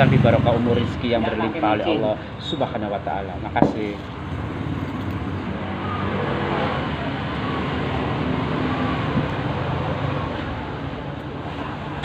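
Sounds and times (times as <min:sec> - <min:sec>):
road traffic: 0:00.0 - 0:12.0
vehicle engines running: 0:00.0 - 0:12.0.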